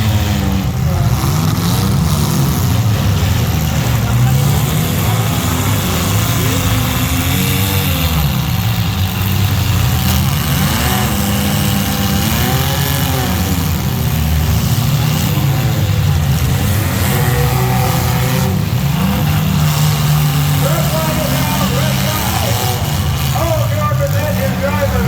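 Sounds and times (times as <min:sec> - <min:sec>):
race engines revving: 0:00.0 - 0:25.0.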